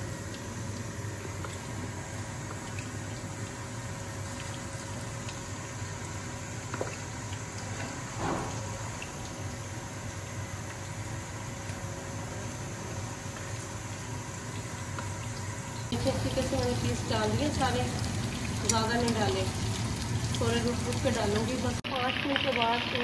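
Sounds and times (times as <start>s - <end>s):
chicken frying in oil: 0.0s - 23.0s.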